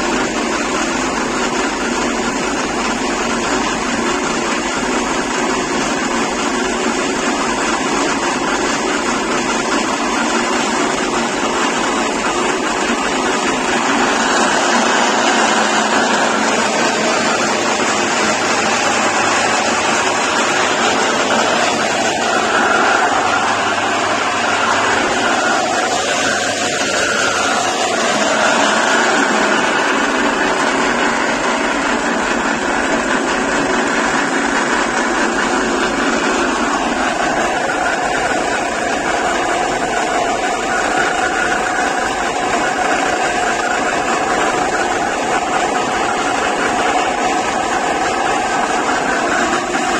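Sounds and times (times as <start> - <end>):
pellet mill running: 0.0 - 49.9.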